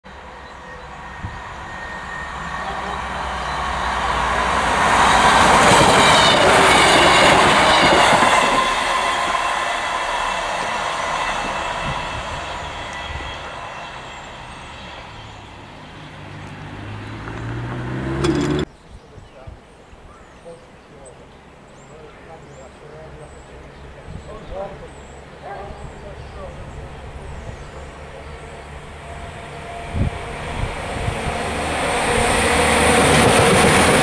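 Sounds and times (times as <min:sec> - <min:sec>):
passenger train passing: 0:00.1 - 0:18.7, 0:24.6 - 0:34.0.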